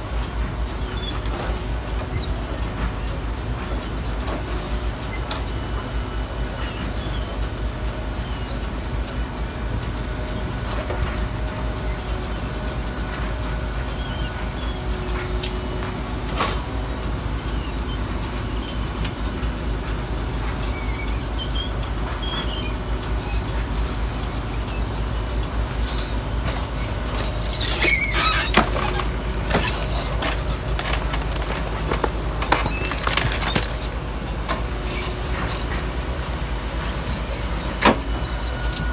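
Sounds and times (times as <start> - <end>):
garbage truck engine rumbling: 0.0 - 38.9.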